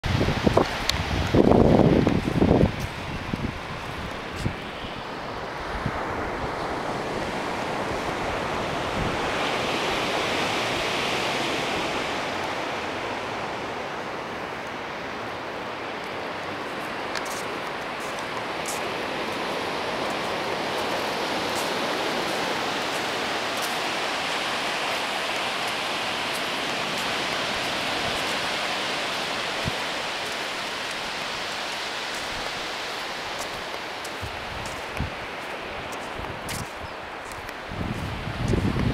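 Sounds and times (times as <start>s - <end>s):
ocean surf on beach: 0.0s - 38.9s.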